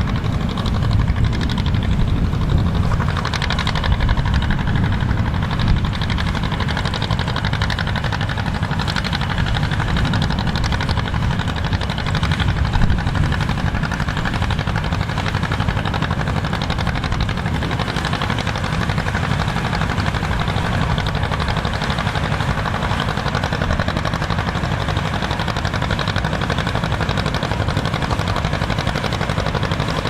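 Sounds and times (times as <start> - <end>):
farm machinery engine running: 0.0 - 30.0.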